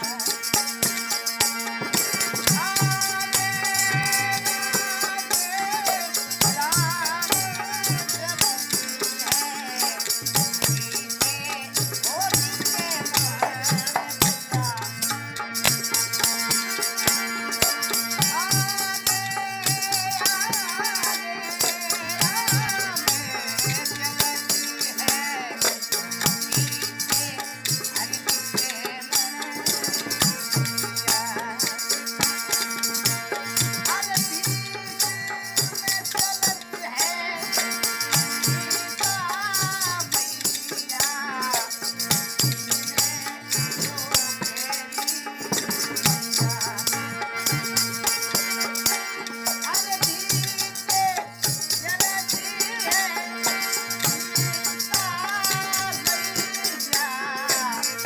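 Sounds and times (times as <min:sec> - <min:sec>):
harmonium chords: 0:00.0 - 0:58.0
jingling tambourine: 0:00.0 - 0:58.0
man singing: 0:00.0 - 0:58.0.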